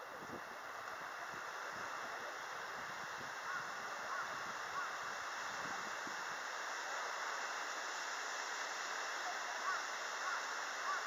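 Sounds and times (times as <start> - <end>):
city air hiss: 0.0 - 11.0.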